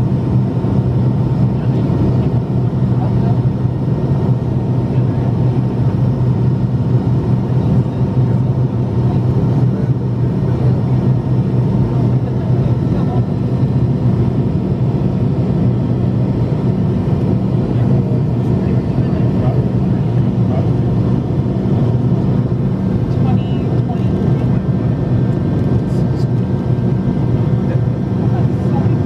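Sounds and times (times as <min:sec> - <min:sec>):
constant low hum: 0:00.0 - 0:29.0
jet engines droning: 0:00.0 - 0:29.0.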